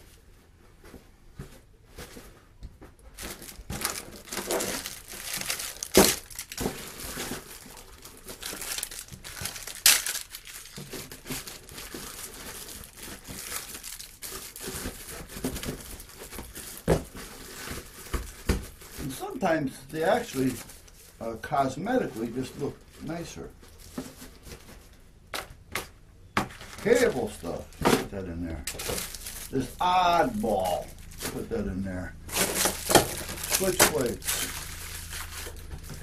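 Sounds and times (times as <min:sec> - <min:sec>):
packaging crinkling and rustling: 0:01.6 - 0:36.0.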